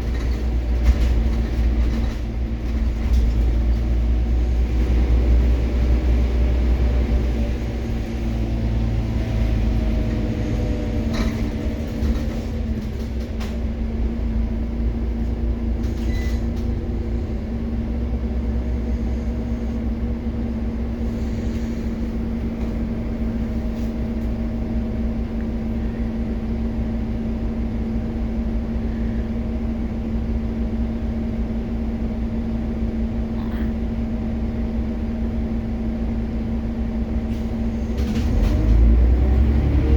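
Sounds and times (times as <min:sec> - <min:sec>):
bus drivetrain whine and idle: 0:00.0 - 0:39.9.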